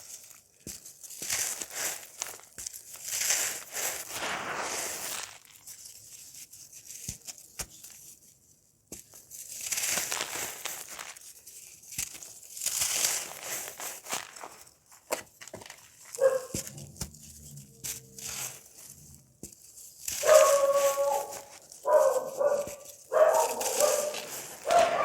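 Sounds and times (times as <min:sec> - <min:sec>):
dry cake crumbling and crunching: 0:00.0 - 0:25.0.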